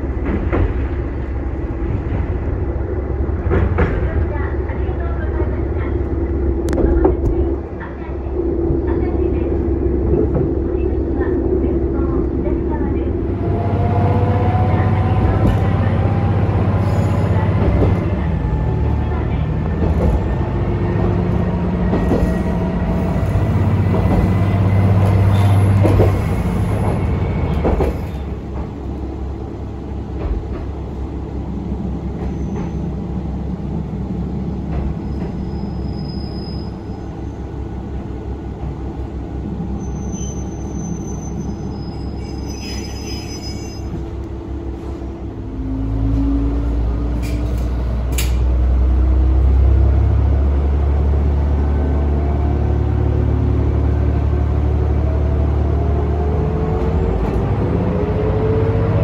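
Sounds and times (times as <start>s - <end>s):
diesel railcar engine hum: 0.0s - 59.0s
rail noise: 0.0s - 59.0s.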